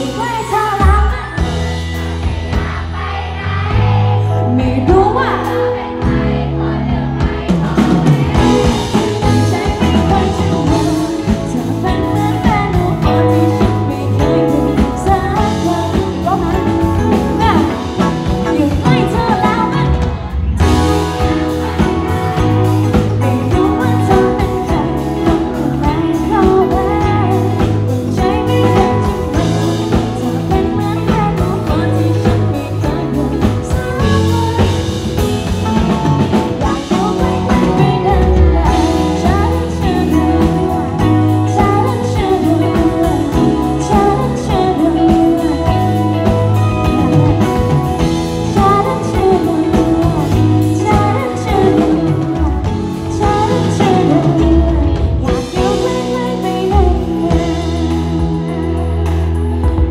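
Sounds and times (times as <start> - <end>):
live band playing: 0.0 - 59.9
woman singing pop song: 0.0 - 59.9.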